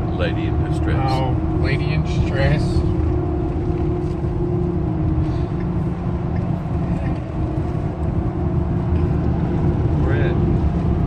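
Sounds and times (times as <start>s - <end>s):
constant hum: 0.0s - 11.0s
engine and tyres rumbling: 0.0s - 11.0s.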